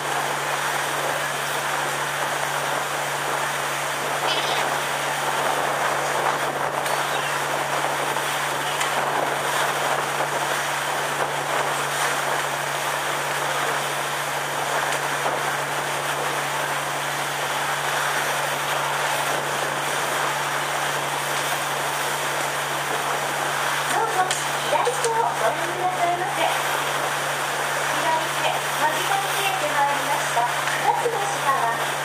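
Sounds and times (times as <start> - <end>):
boat engine droning: 0.0 - 32.0
rushing water noise: 0.0 - 32.0.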